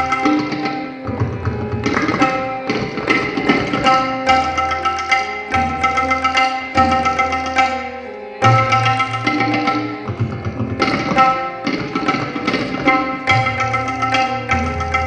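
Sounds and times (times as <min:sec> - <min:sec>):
sitar-like melody: 0:00.0 - 0:15.0
tabla drum strokes: 0:00.0 - 0:15.0.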